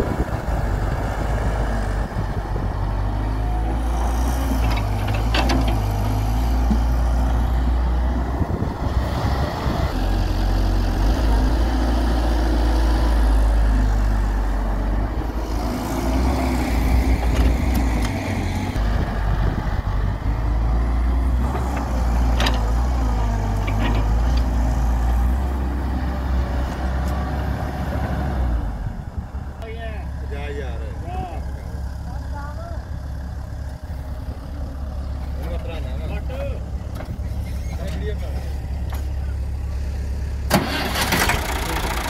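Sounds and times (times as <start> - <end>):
excavator diesel engine: 0.0 - 42.0.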